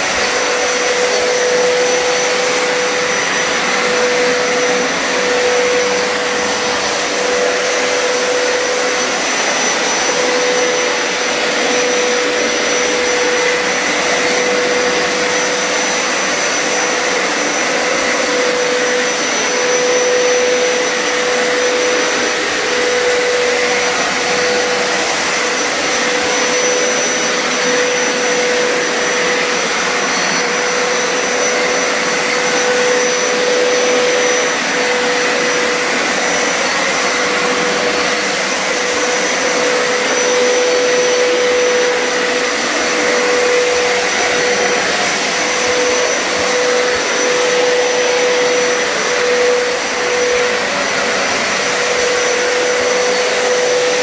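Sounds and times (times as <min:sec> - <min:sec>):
carpet cleaner suction motor whining: 0:00.0 - 0:54.0.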